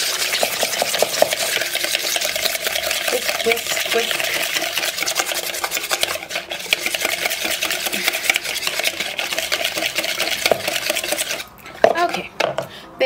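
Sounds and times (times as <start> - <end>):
whisk clicking and scraping bowl: 0.0 - 12.7.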